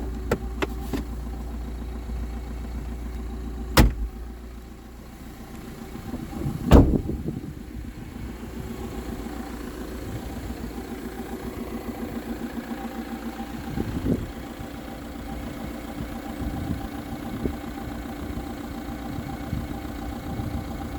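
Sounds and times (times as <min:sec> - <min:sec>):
diesel engine starting and idling: 0:00.0 - 0:20.9.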